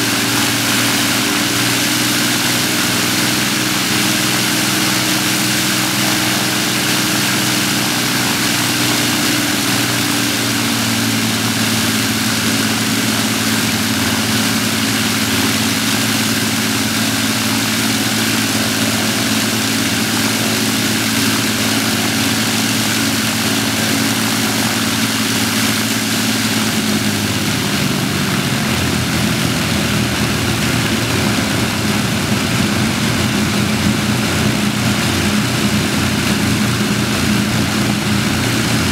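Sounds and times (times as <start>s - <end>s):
aircraft engines and propellers: 0.0s - 38.9s.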